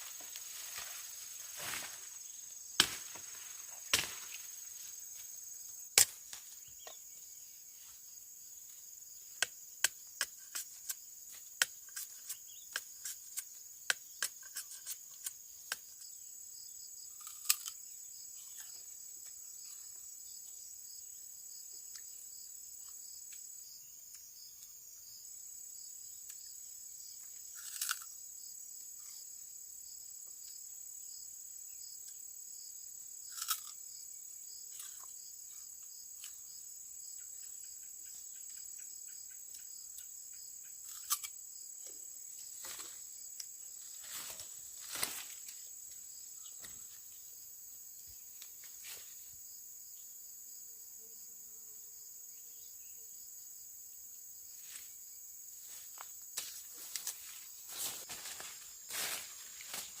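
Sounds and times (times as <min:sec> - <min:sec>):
insect chorus buzzing: 0:00.0 - 1:00.0.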